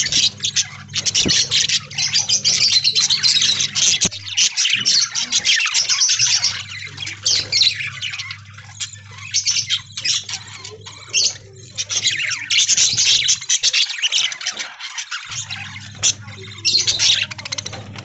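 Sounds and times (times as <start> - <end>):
faint low hum: 0.0 - 5.3, 5.9 - 13.6, 15.3 - 18.0
budgerigars chattering: 0.0 - 18.0.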